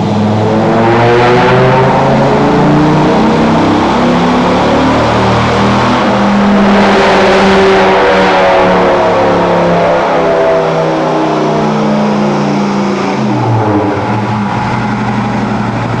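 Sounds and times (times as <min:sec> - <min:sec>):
engine running hard on dyno: 0:00.0 - 0:16.0.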